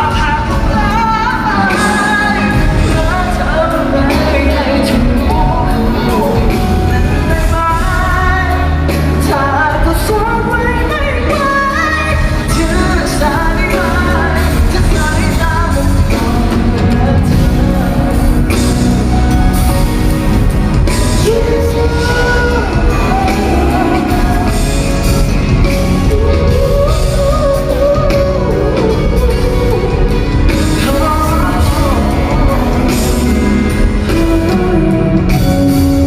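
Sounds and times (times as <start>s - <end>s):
live pop band playing: 0.0s - 36.0s
person singing: 0.0s - 36.0s.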